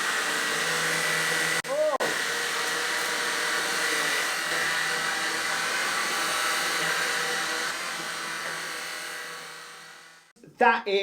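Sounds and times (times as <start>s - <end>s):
vacuum cleaner motor whine: 0.0s - 10.3s.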